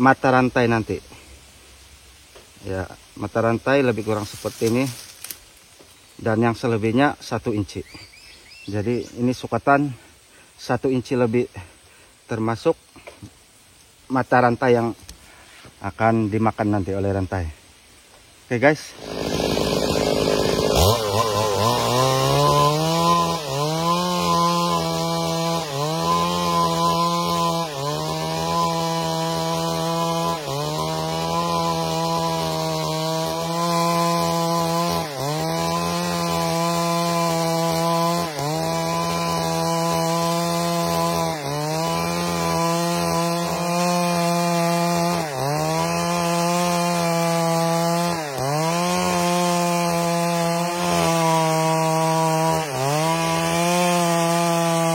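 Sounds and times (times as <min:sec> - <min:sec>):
chainsaw cutting log: 0:02.4 - 0:11.8, 0:18.7 - 0:54.9.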